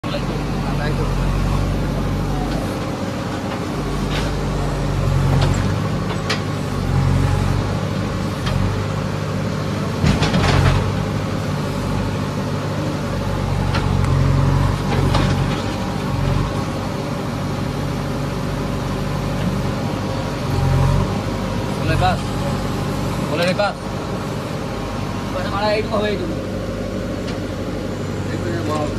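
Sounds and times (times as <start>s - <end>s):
diesel engine under load: 0.0s - 28.9s.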